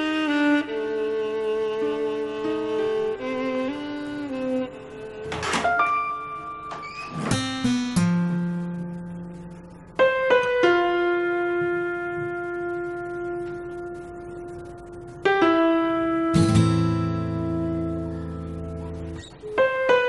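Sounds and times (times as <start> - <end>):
slow piano notes: 0.0 - 20.0.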